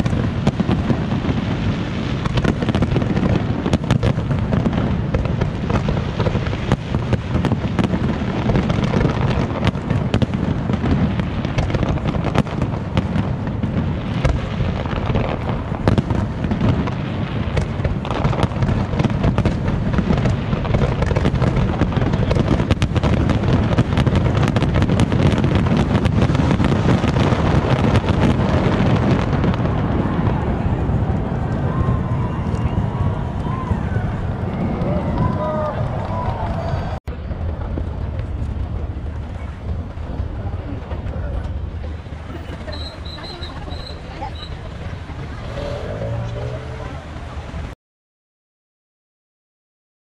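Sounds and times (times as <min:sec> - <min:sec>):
fireworks booms and cracks: 0:00.0 - 0:46.2.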